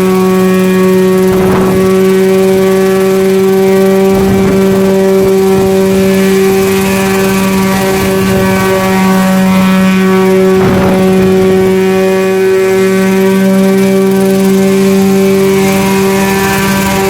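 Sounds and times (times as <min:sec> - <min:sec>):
toy helicopter drone: 0:00.0 - 0:17.0.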